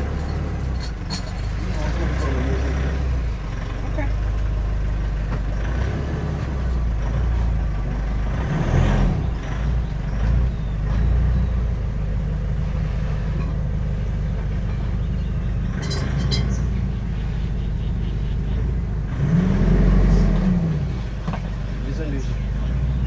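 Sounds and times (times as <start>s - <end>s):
motor vehicle rumble: 0.0s - 23.0s.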